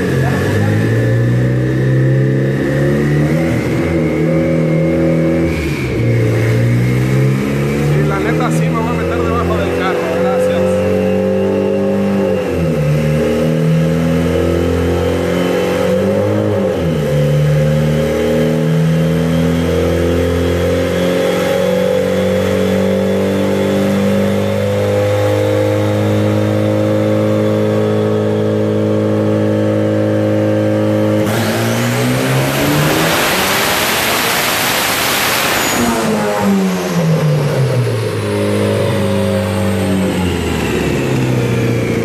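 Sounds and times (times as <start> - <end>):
car engine revving on dynamometer: 0.0 - 42.0.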